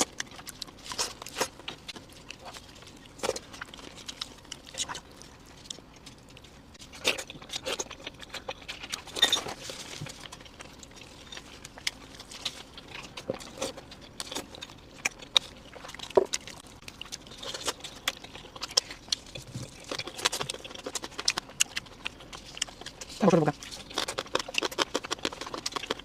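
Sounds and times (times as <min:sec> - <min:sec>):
crunching and chewing food: 0:00.0 - 0:26.0.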